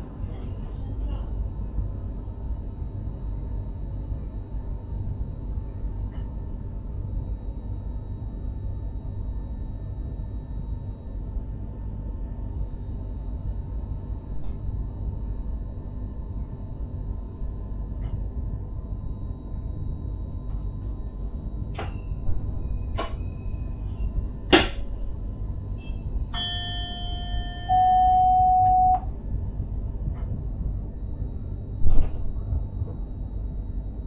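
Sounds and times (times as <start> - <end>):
train low rumble: 0.0 - 34.0.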